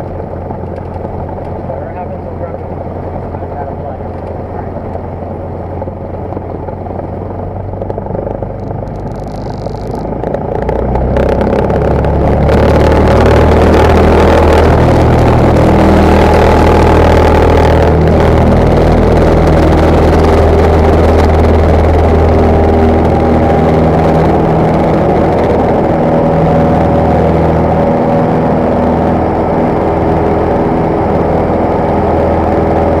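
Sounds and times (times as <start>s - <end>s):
propeller plane engine running: 0.0s - 33.0s.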